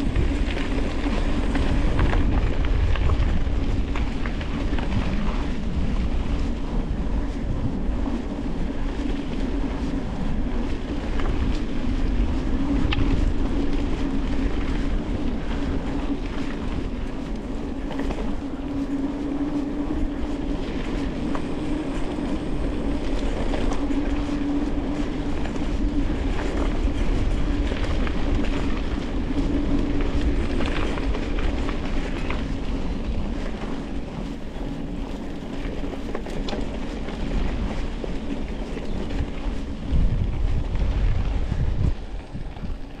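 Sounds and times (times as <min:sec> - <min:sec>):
tyres rumbling on rough ground: 0:00.0 - 0:43.0.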